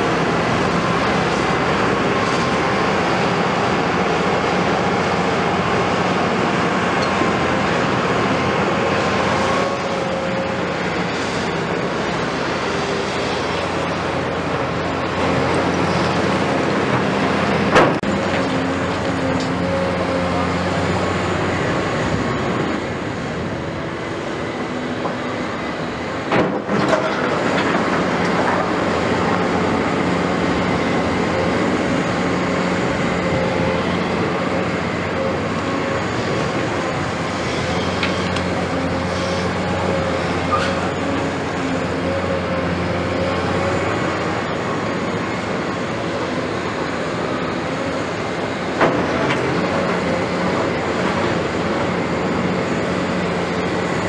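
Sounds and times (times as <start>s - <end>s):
excavator engine and hydraulics: 0.0s - 54.0s.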